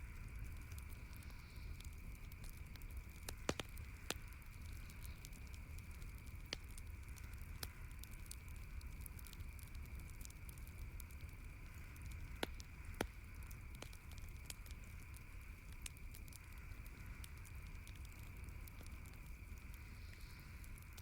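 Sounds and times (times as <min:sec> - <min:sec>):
campfire crackling: 0:00.0 - 0:21.0
steady background hiss: 0:00.0 - 0:21.0
sharp fire pops: 0:00.4 - 0:21.0.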